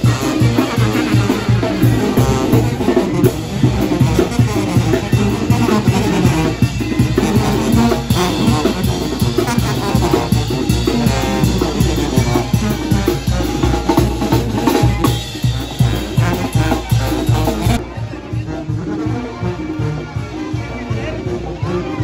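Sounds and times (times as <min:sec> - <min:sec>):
bass drum: 0:00.0 - 0:17.8
snare drum: 0:00.0 - 0:17.8
brass band playing: 0:00.0 - 0:22.0
cymbals: 0:00.0 - 0:22.0.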